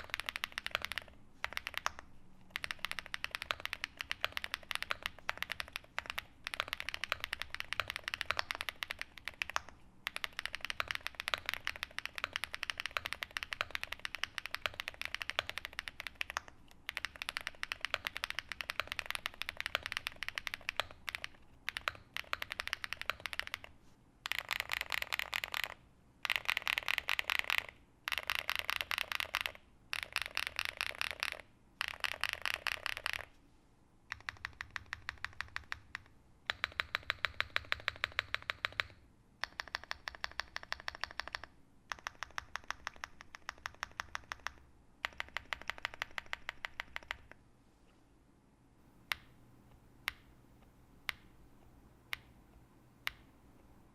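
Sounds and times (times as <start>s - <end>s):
mechanical keyboard typing: 0.0s - 33.3s, 34.1s - 47.4s
rapid repeated key presses: 0.0s - 33.3s, 34.1s - 47.4s, 50.0s - 50.4s, 51.0s - 51.4s, 52.0s - 52.4s.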